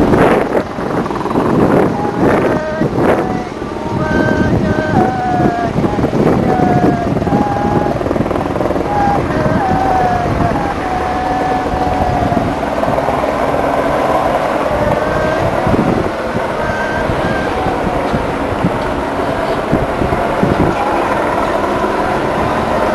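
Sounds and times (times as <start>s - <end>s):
distant engine drone: 0.0s - 22.9s
wind buffeting microphone: 0.0s - 22.9s.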